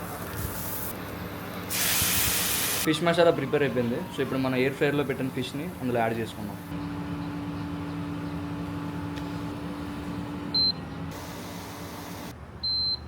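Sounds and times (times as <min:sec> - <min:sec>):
appliance fan humming: 0:00.0 - 0:13.0.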